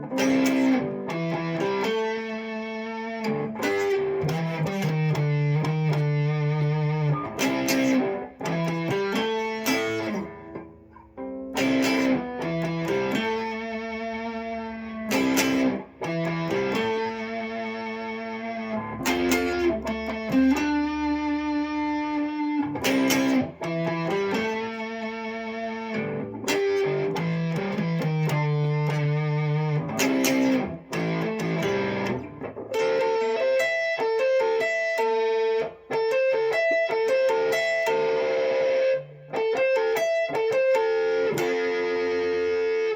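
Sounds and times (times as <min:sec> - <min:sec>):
electric guitar notes and chords: 0:00.0 - 0:42.9.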